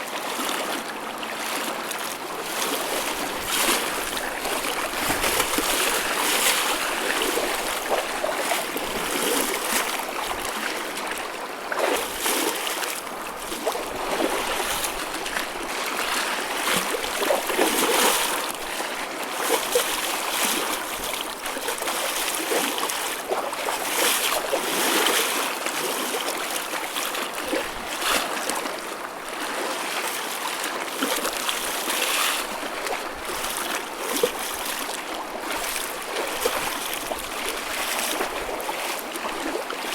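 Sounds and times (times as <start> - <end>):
choppy ocean waves: 0.0 - 39.9.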